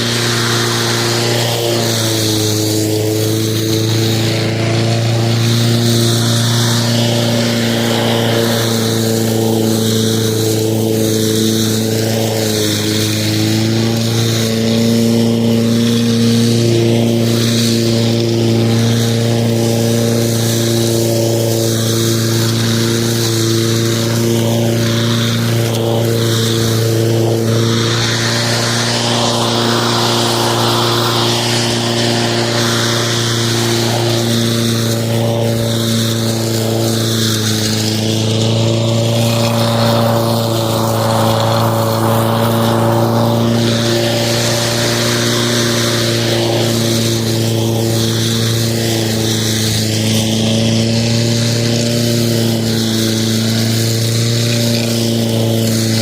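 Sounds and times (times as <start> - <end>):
lawn mower humming: 0.0 - 56.0.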